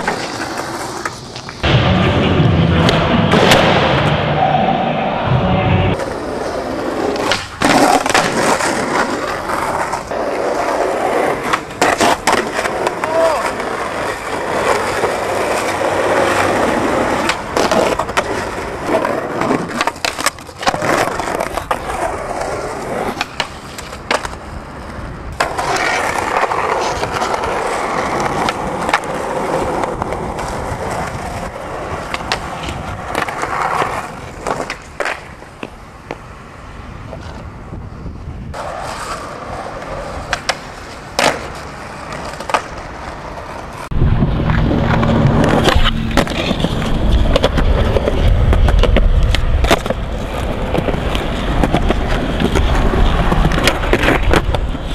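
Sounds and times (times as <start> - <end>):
skateboard clacks: 0.0 - 4.1, 5.9 - 36.3, 38.5 - 54.9
skateboard wheels rolling on pavement: 0.0 - 54.9.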